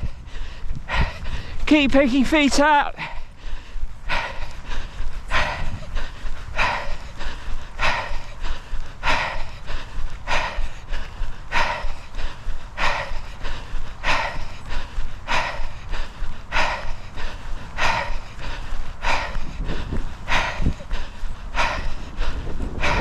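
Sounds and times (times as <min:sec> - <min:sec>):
person breathing hard: 0:00.0 - 0:23.0
steady low rumble: 0:00.0 - 0:23.0.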